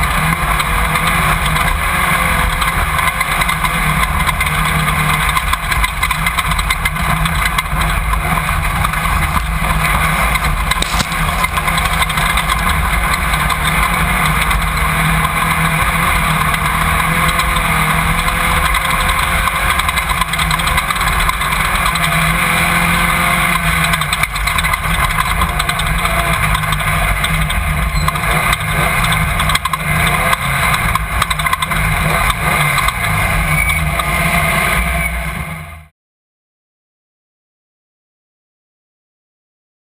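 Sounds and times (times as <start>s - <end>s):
drivetrain noise: 0.0s - 35.9s
race car engine running: 0.0s - 35.9s.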